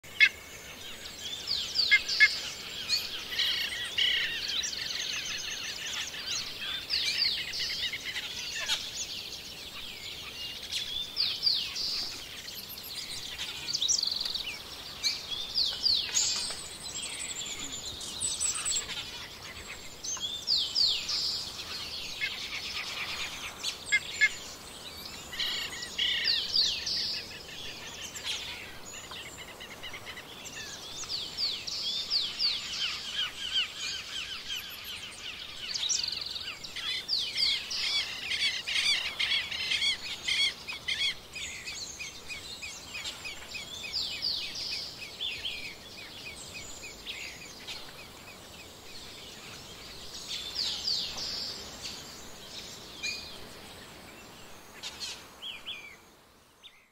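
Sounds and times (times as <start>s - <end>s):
faint steady hiss: 0.0s - 56.9s
songbirds chirping and trilling: 0.0s - 56.9s.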